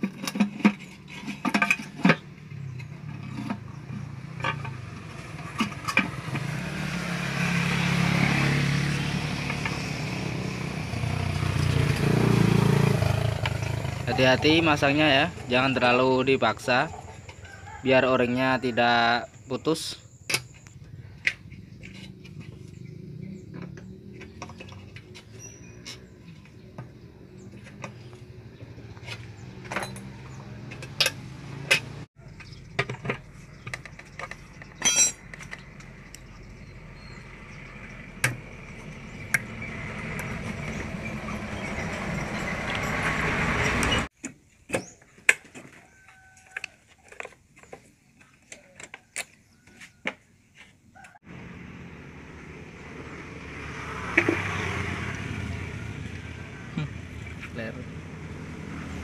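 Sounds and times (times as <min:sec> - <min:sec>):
engine hum: 0:00.0 - 0:44.2, 0:51.0 - 0:59.0.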